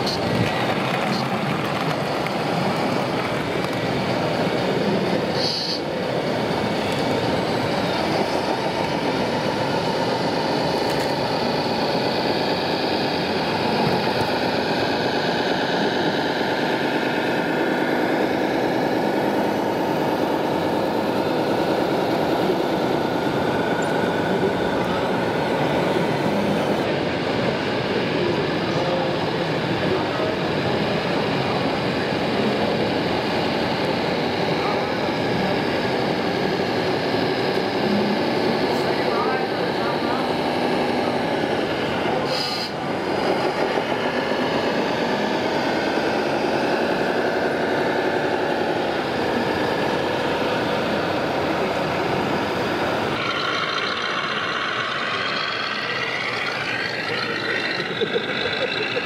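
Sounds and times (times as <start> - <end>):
faint motor whine: 0.0 - 59.0
model trucks running: 0.0 - 59.0.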